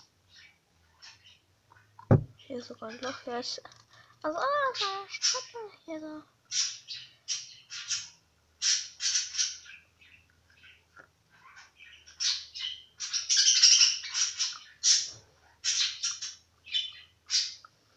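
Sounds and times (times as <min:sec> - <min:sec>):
small bird chirping: 0:00.0 - 0:03.7, 0:04.4 - 0:17.8.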